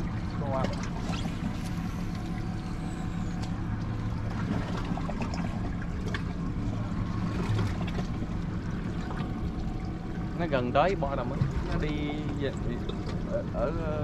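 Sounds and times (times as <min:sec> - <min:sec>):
boat engine idling: 0:00.0 - 0:14.0
water lapping against hull: 0:00.0 - 0:14.0.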